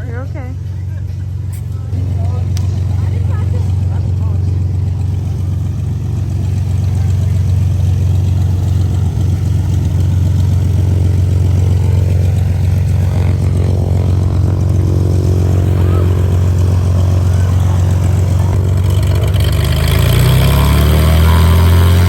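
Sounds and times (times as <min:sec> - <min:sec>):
propeller airplane engine drone: 0:00.0 - 0:22.0.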